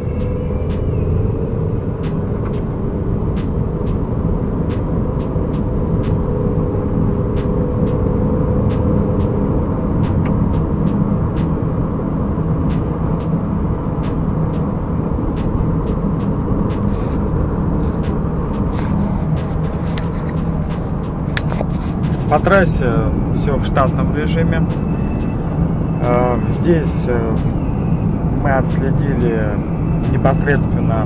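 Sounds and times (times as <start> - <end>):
car driving hum: 0.0 - 31.0.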